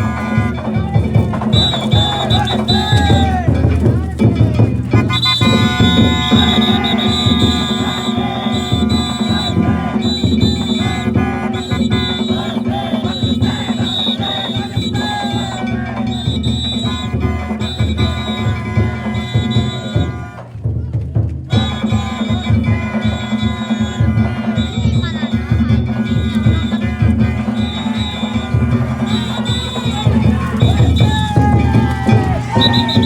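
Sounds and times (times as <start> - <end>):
taiko drum beating: 0.0 - 33.0
voices: 0.0 - 33.0.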